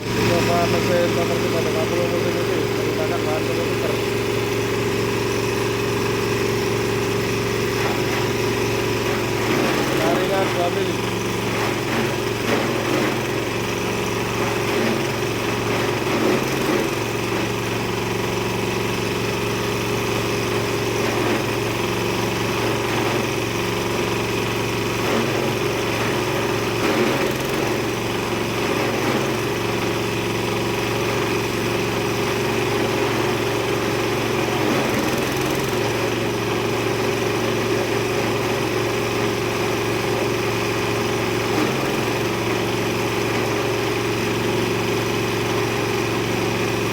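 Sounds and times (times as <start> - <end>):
grinding machine humming: 0.0 - 46.9.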